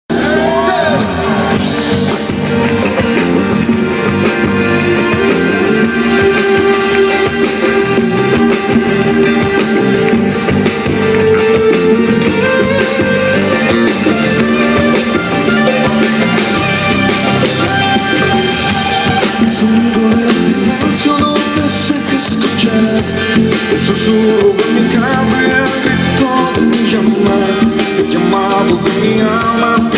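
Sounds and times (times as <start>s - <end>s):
pop-rock band instrumental: 0.1s - 29.9s.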